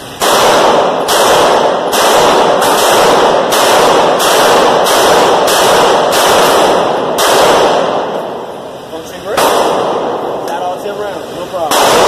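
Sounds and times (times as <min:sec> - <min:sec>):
pistol shots indoors: 0:00.0 - 0:10.5, 0:11.6 - 0:12.0.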